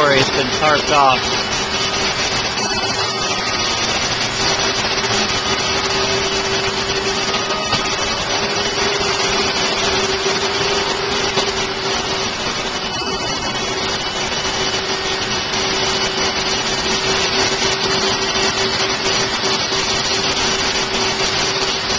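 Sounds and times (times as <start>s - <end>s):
electric fan whirring: 0.0s - 21.9s.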